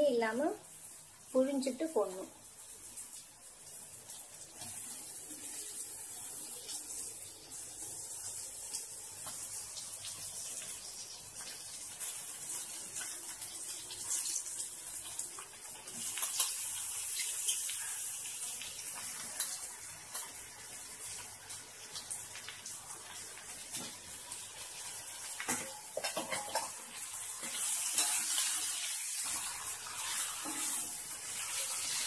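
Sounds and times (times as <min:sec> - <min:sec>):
hot oil sizzling and crackling: 0:00.0 - 0:32.0.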